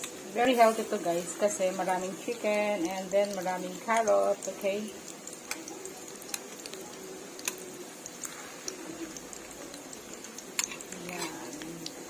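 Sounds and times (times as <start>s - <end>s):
patties sizzling in oil: 0.0s - 12.0s.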